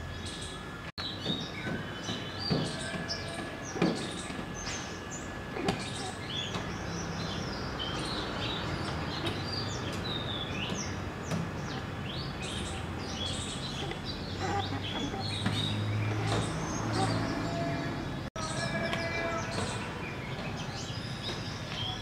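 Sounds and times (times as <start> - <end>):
outdoor background noise: 0.0 - 22.0
small birds chirping: 0.0 - 22.0.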